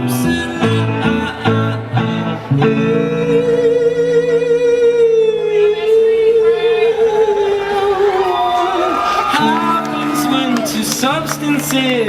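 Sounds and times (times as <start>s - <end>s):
live band holding a note: 0.2s - 12.0s.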